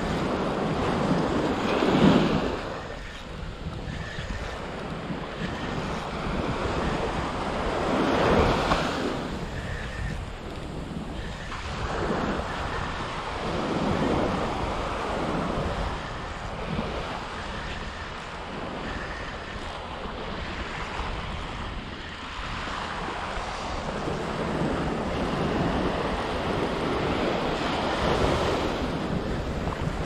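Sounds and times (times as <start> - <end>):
ocean surf on beach: 0.0 - 30.0
wind on microphone: 0.0 - 30.0.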